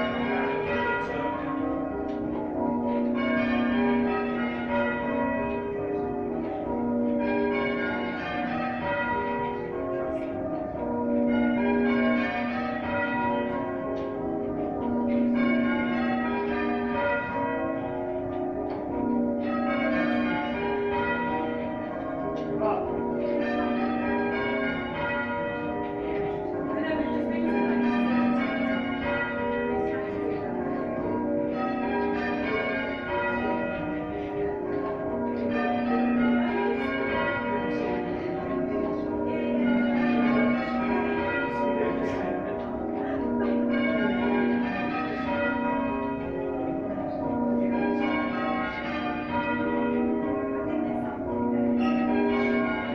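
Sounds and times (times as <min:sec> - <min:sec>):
church bells ringing: 0:00.0 - 0:52.9.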